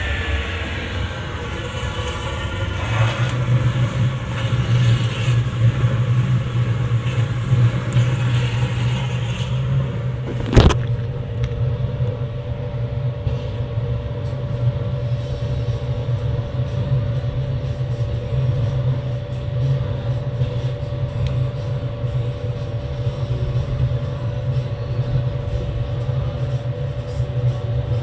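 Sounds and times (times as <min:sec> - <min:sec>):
oil burner rumbling: 0:00.0 - 0:28.0.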